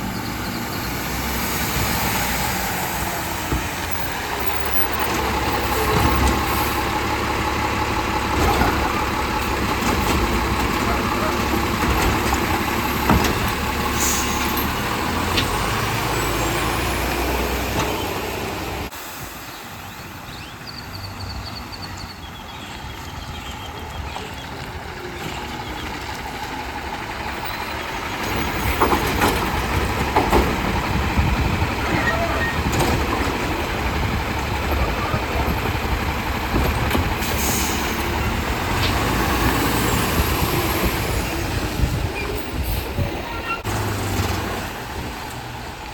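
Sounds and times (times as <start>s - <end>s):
garbage truck diesel engine: 0.0s - 45.9s.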